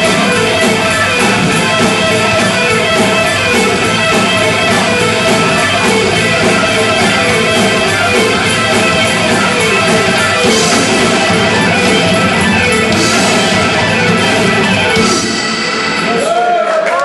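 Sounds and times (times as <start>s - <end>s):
drums: 0.0s - 17.0s
electric guitar solo: 0.0s - 17.0s
rock band playing: 0.0s - 17.0s.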